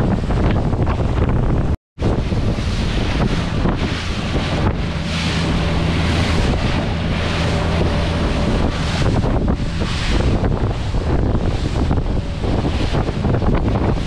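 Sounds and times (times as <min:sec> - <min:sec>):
outboard motor humming: 0:00.0 - 0:14.0
wind buffeting microphone: 0:00.0 - 0:14.0.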